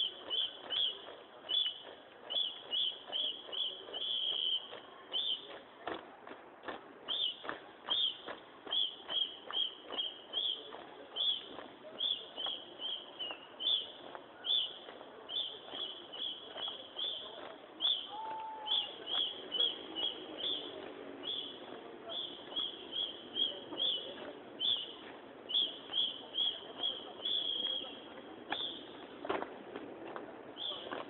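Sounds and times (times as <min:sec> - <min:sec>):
murmur of voices: 0:00.0 - 0:31.0.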